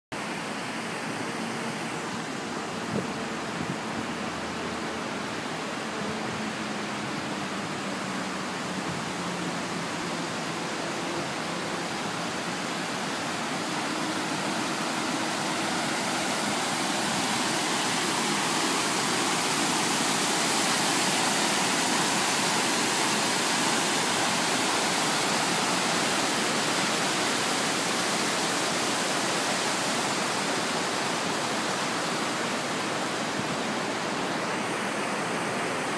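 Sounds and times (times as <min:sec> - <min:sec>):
river water rushing over dam: 0:00.2 - 0:35.9.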